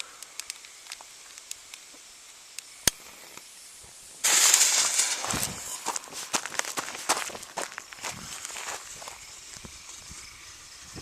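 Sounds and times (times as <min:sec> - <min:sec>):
firework fuse hissing and crackling: 0:00.0 - 0:11.0.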